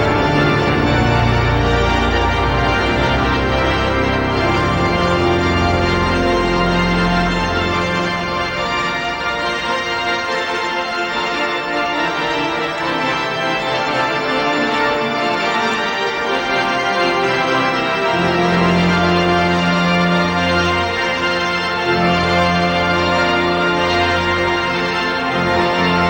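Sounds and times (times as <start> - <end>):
pipe organ chords: 0.0 - 26.0.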